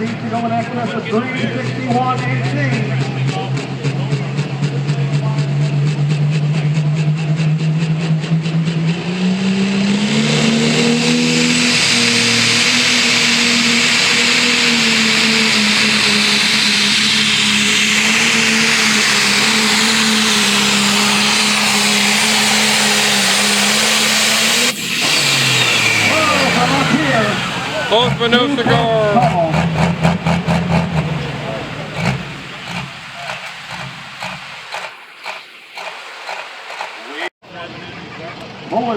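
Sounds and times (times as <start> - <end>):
diesel tractor engine under load: 0.0 - 37.3.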